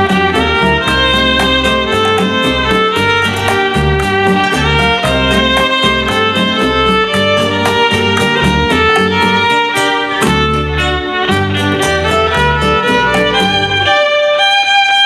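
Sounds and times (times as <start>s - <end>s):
backing track with bass and beat: 0.0s - 15.0s
electric violin melody: 0.0s - 15.0s.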